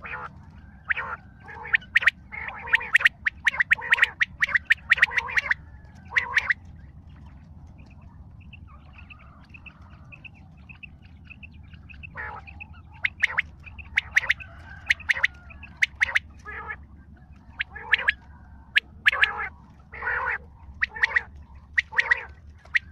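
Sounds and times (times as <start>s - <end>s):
bird squawking: 0.0s - 6.7s, 7.9s - 22.9s.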